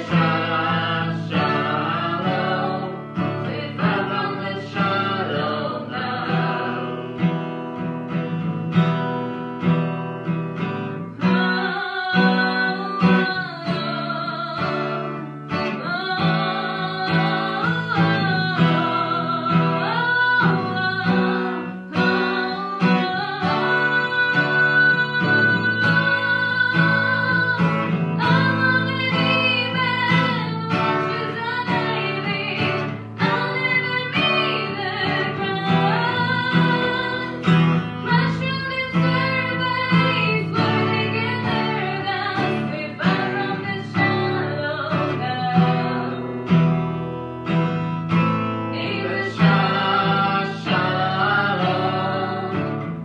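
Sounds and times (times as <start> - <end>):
woman singing: 0.0 - 8.5, 10.6 - 46.7, 48.1 - 53.0
strummed acoustic guitar: 0.0 - 53.0.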